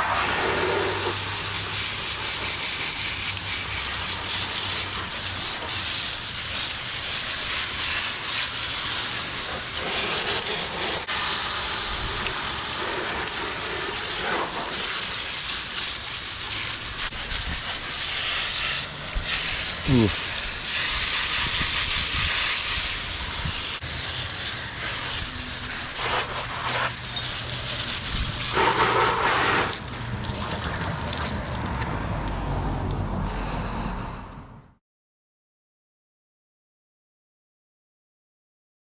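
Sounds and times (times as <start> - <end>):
water spray hissing: 0.0 - 31.8.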